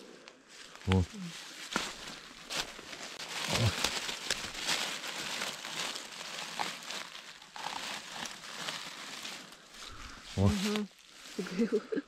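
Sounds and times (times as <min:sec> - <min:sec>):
dry leaves rustling and crunching: 0:00.5 - 0:11.8.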